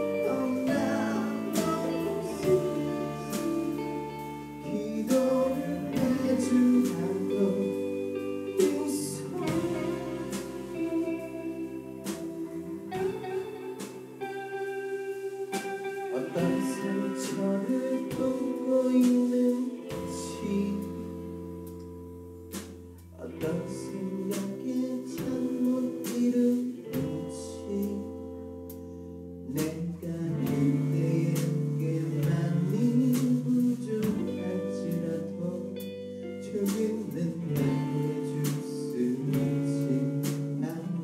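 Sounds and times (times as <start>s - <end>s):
man singing: 0.0s - 12.2s, 16.0s - 21.3s, 23.2s - 28.2s, 29.4s - 41.0s
rock band playing: 0.0s - 41.0s.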